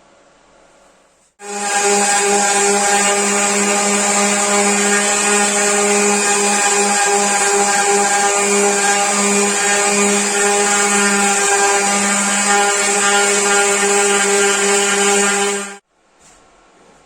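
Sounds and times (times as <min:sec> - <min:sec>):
electric power tool running: 0:01.4 - 0:15.8.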